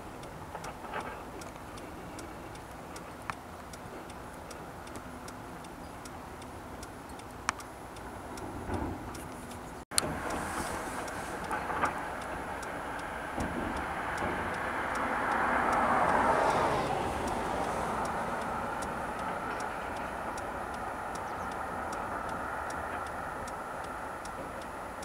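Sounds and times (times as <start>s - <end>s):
faint rapid ticks: 0.0s - 25.0s
outdoor background noise: 0.0s - 25.0s.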